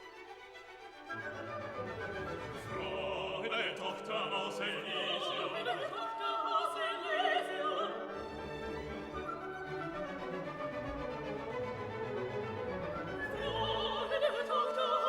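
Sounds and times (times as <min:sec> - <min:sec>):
orchestral classical music: 0:00.0 - 0:15.0
operatic singing with wide vibrato: 0:00.8 - 0:15.0.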